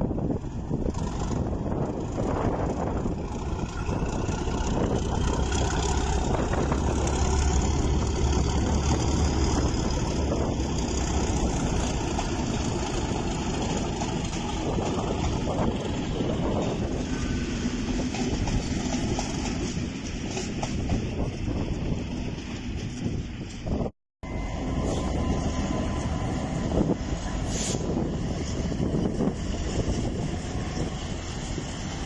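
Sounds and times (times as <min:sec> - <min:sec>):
diesel train engine rumbling: 0:00.0 - 0:32.0.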